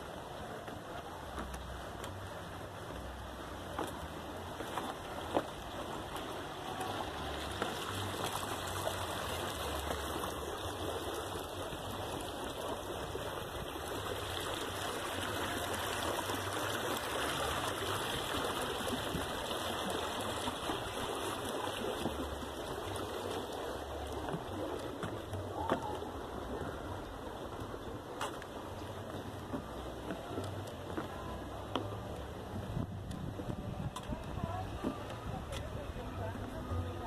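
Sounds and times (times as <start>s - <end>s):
stream water flowing: 0.0s - 37.0s.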